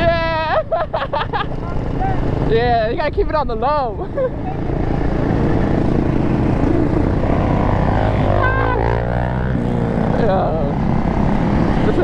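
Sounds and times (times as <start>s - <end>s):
dirt bike engines running: 0.0s - 12.0s.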